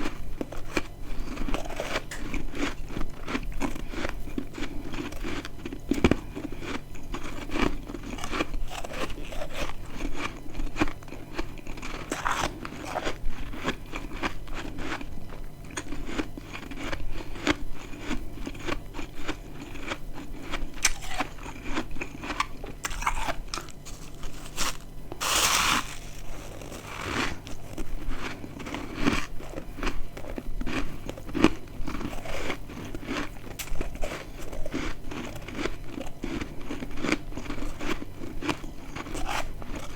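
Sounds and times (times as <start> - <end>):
biting and chewing ice crunches: 0.0 - 39.9.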